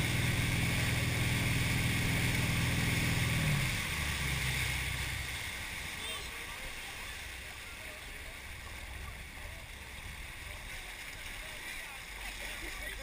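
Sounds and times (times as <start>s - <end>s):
motorboat engine running: 0.0s - 13.0s
rush of boat wake: 0.0s - 13.0s.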